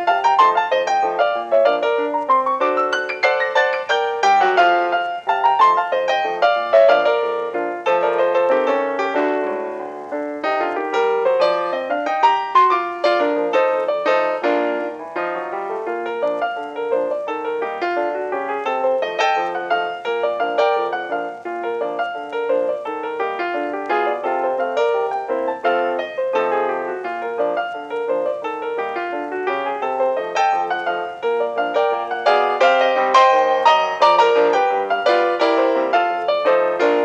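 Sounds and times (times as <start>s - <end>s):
ragtime piano music: 0.0s - 37.0s.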